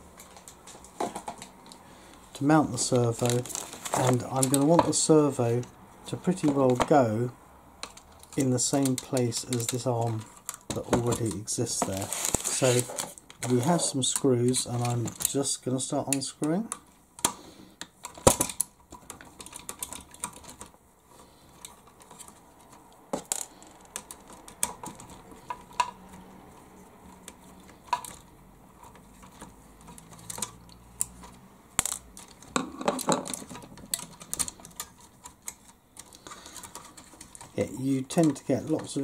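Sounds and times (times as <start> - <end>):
small plastic parts handled: 0.1 - 7.0, 7.8 - 39.0.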